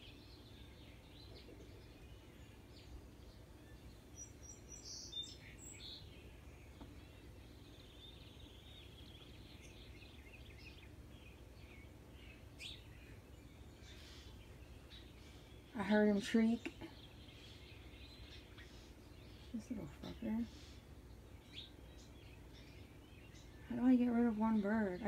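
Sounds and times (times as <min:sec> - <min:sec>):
birds chirping and calling: 0:00.0 - 0:25.0
low steady background hum: 0:00.0 - 0:25.0.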